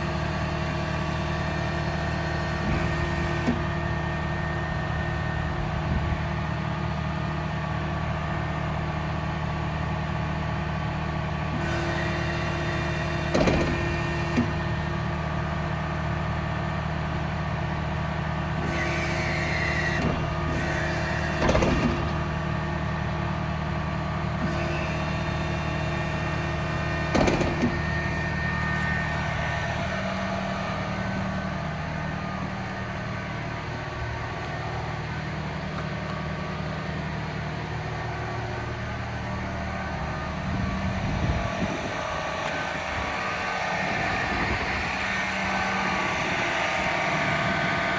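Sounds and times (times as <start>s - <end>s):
engine and machinery drone: 0.0s - 47.9s.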